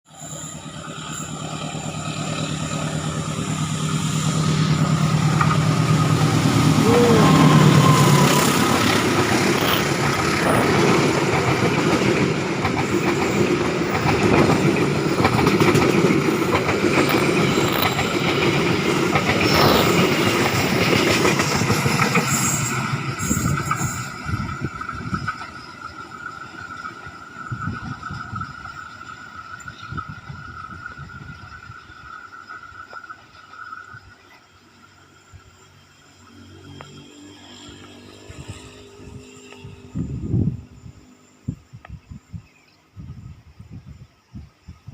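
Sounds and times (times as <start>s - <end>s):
diesel locomotive engine drone: 0.1s - 44.1s
train wheels clattering on rails: 0.4s - 40.1s.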